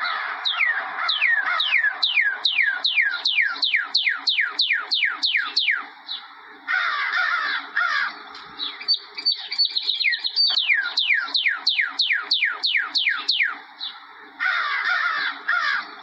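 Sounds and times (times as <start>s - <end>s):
bird calling: 0.0s - 16.0s.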